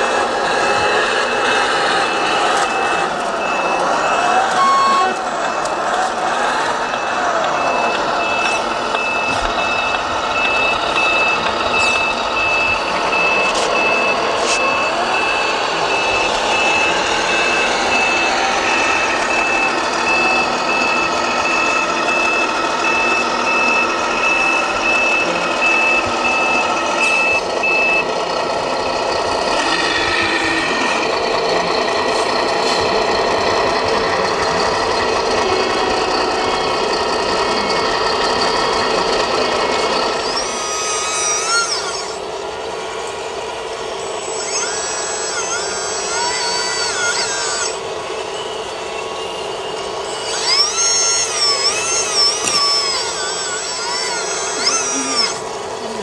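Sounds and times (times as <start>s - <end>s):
simulated diesel engine: 0.0s - 56.0s
electronic reversing beeps: 0.2s - 42.2s, 43.7s - 55.4s.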